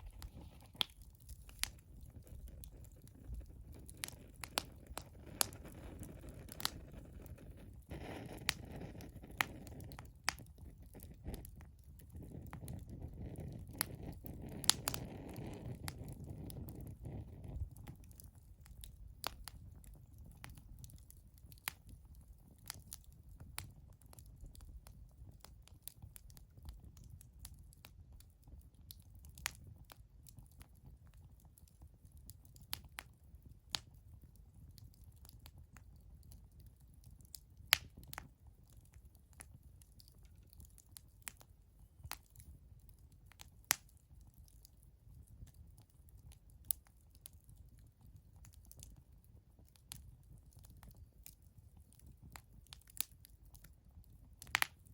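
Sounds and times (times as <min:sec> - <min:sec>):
bonfire crackling and popping: 0:00.0 - 0:54.9.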